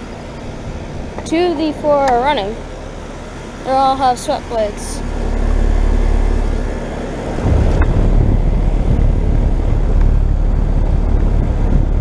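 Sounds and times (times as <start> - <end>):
air conditioner units rumbling: 0.0 - 12.0.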